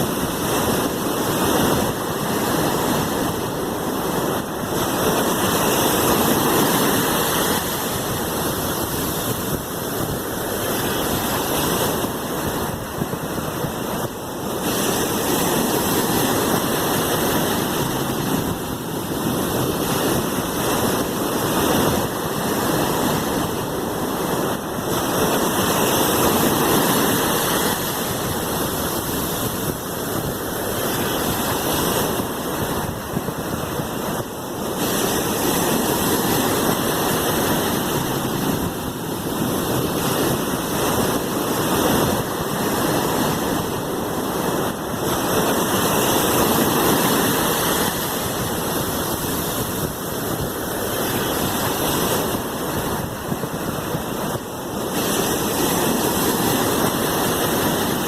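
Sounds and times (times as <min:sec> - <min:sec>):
sea waves surf: 0:00.0 - 0:58.0.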